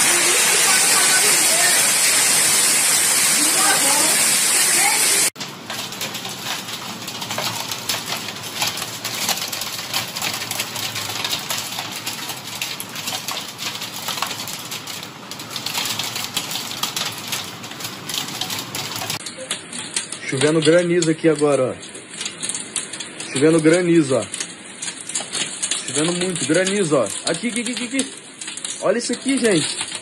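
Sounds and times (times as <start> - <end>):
hail striking glass: 0.0 - 30.0
rain rushing: 0.0 - 30.0.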